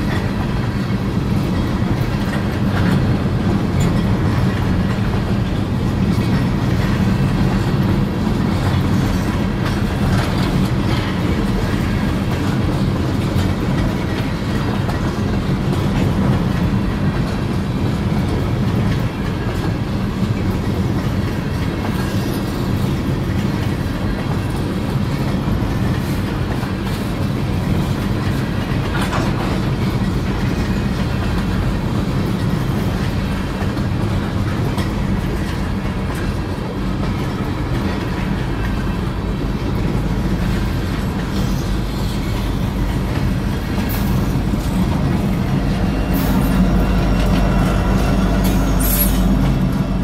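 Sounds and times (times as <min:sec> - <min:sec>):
diesel locomotive rumble: 0:00.0 - 0:50.0
freight train wheels clattering: 0:00.0 - 0:50.0.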